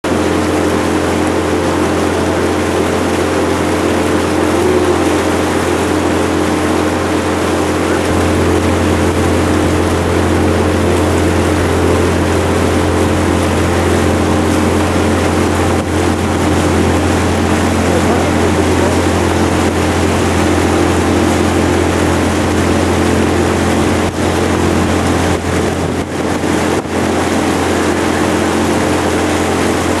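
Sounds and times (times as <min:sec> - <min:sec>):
motorboat engine drone: 0:00.0 - 0:30.0
rushing water noise: 0:00.0 - 0:30.0.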